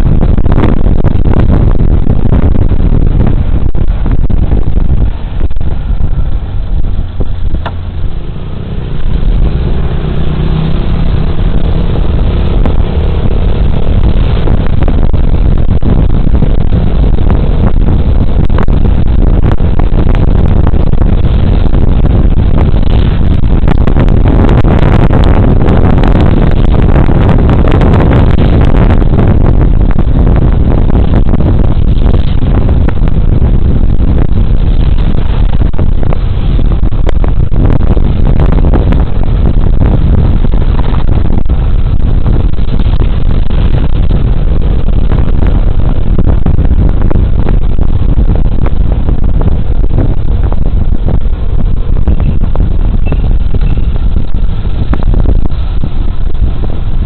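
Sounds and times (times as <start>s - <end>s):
scooter engine rumble: 0.0s - 57.0s
tyres and rushing air: 0.0s - 57.0s.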